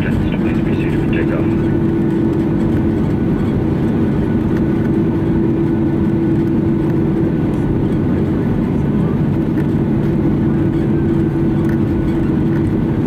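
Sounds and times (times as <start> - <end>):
jet engines idling in cabin: 0.0 - 13.0.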